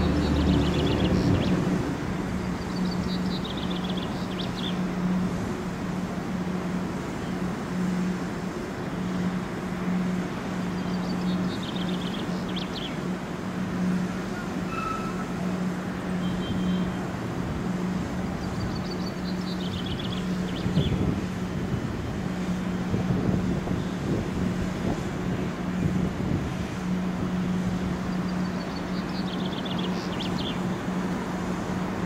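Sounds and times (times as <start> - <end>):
train low hum: 0.0 - 32.0.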